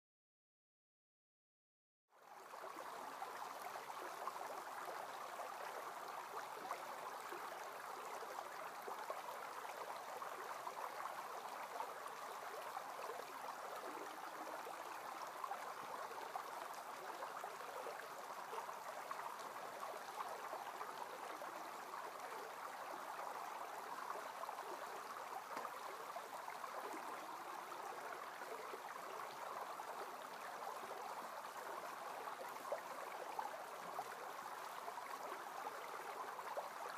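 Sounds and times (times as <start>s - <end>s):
creek water rushing: 2.2s - 36.9s.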